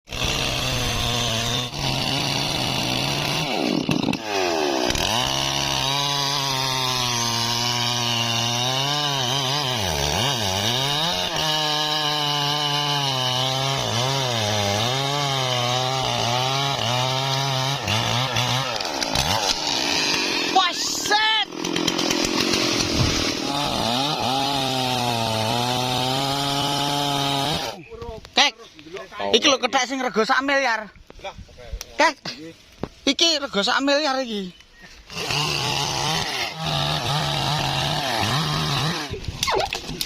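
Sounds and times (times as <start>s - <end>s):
chainsaw cutting at high revs: 0.1s - 27.8s, 35.0s - 40.0s.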